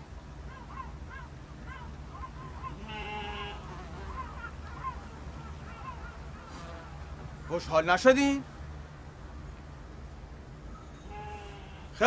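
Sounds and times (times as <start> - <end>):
birds chirping: 0.0 - 12.0
low background rumble: 0.0 - 12.0.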